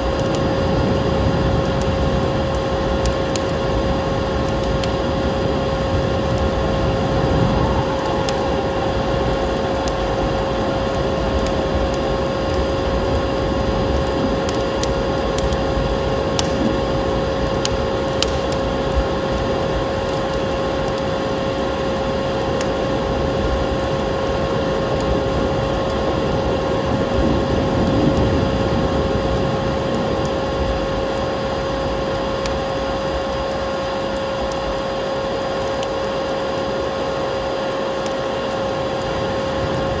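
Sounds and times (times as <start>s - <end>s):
steady hum-like tone: 0.0s - 40.0s
wood fire crackling and popping: 0.0s - 40.0s.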